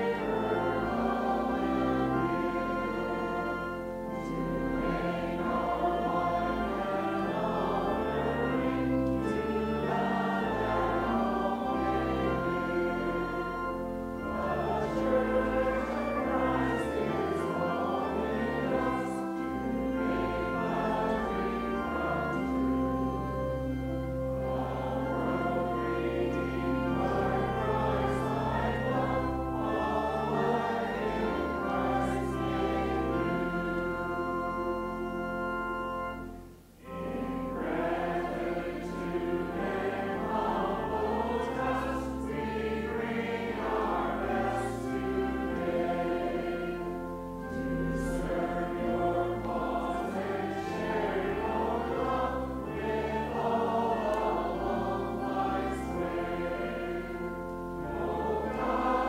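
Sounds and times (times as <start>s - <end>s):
accompaniment with held low notes: 0.0s - 59.0s
choir singing a hymn: 0.0s - 59.0s.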